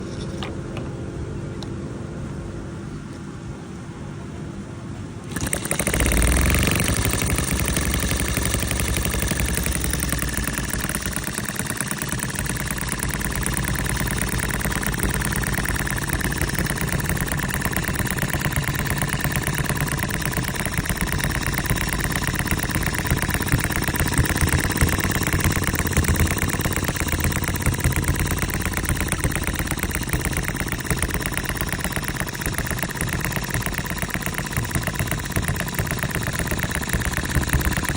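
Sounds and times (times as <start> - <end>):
stationary engine running: 5.2 - 37.9.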